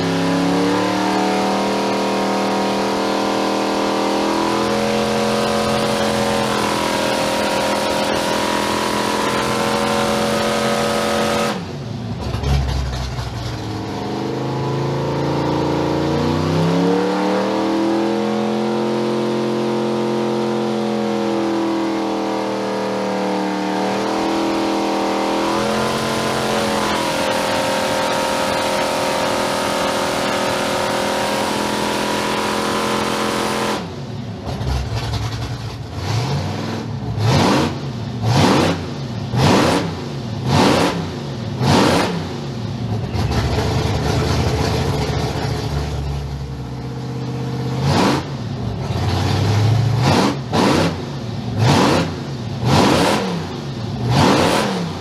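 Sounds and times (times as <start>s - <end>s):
racing engine revving: 0.0s - 55.0s.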